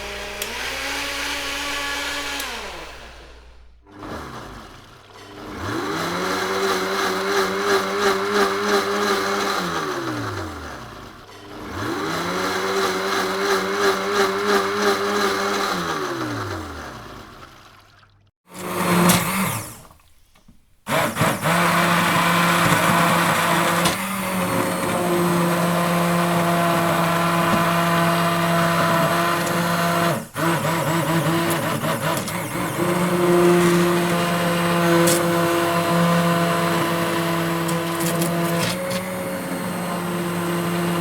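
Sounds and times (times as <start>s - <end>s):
blender motor running: 0.0s - 20.1s, 20.9s - 41.0s.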